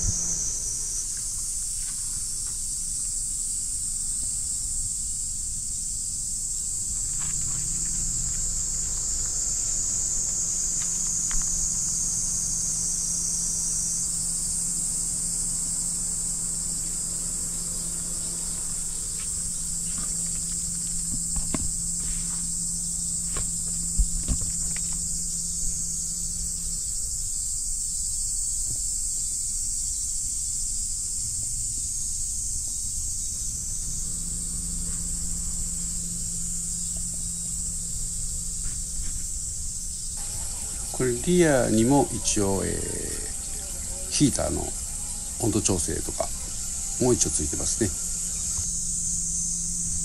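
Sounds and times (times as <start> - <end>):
low steady hum: 0.0 - 28.7, 30.6 - 50.0
insects chorus: 0.0 - 50.0.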